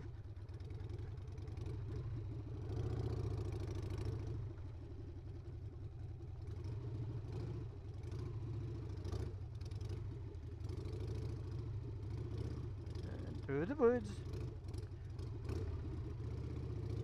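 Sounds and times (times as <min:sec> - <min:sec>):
motorcycle engine at low speed: 0:00.0 - 0:17.0.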